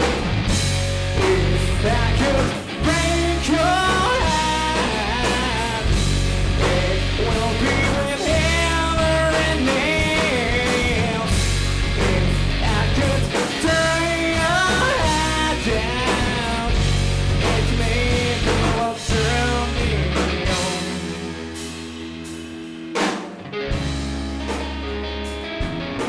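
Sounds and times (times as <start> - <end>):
bass guitar: 0.0 - 26.0
drums: 0.0 - 26.0
electric guitar: 0.0 - 26.0.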